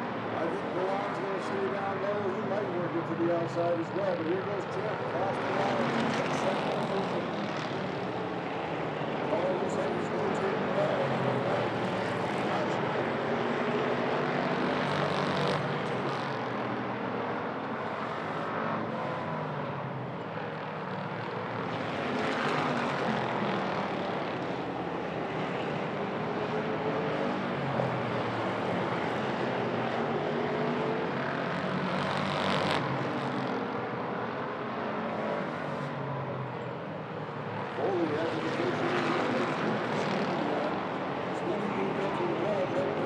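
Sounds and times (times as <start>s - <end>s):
race car engines: 0.0s - 43.0s.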